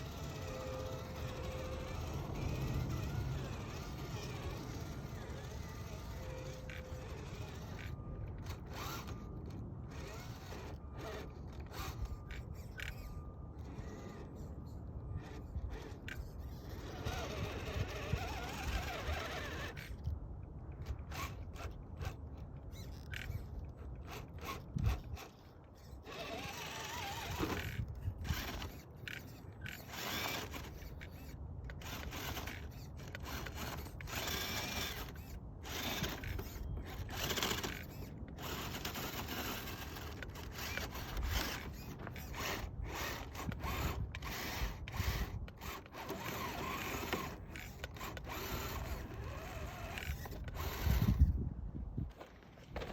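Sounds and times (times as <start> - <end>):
toy car motor whirring and grinding: 0.0 - 52.9.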